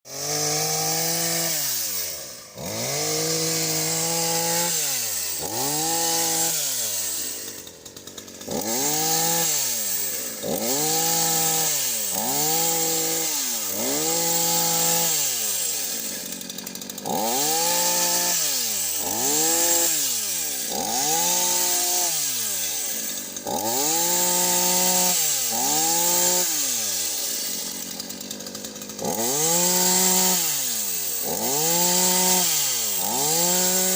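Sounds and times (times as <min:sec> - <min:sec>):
chainsaw revving: 0:00.1 - 0:33.9.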